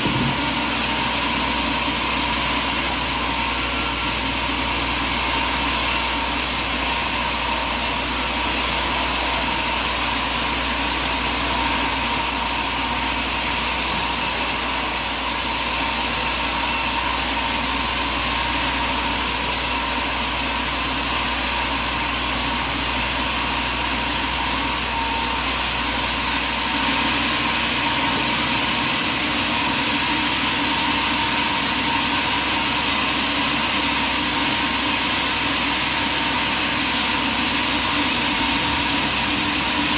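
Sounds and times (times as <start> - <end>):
saw whine: 0.0 - 39.9
sawmill machinery running: 0.0 - 39.9.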